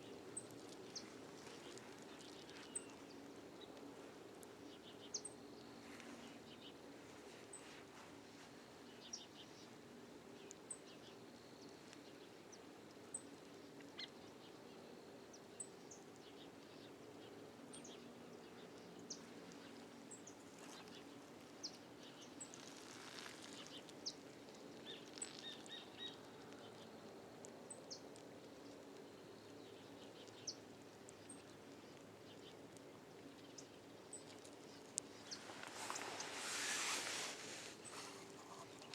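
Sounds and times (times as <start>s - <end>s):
small birds chirping: 0.0s - 27.1s, 27.7s - 38.9s.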